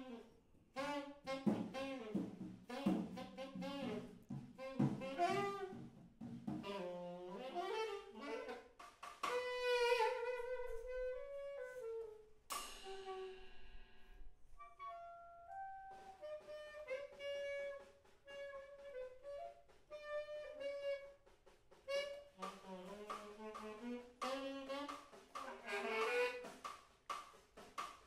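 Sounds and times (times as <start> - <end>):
wind instrument short notes: 0.8 - 5.8, 6.6 - 26.7
lower instrument part: 1.2 - 26.6.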